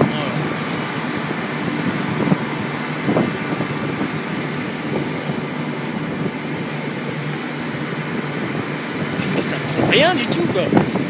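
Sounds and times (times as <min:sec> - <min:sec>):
boat engine and deck machinery drone: 0:00.0 - 0:11.0
wind: 0:00.0 - 0:11.0.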